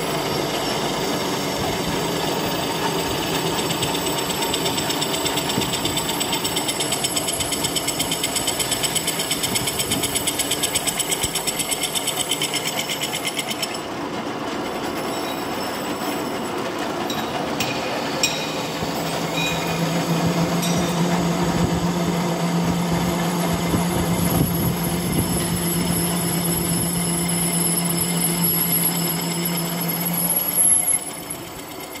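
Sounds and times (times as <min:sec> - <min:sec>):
lathe humming: 0:00.0 - 0:32.0
lathe tool cutting metal chatter: 0:00.0 - 0:32.0.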